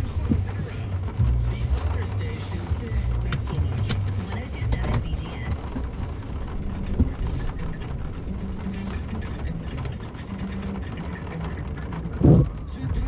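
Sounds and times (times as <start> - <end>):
vehicle engine at low revs: 0.0 - 13.0
vehicle knocks and rattles: 0.0 - 13.0.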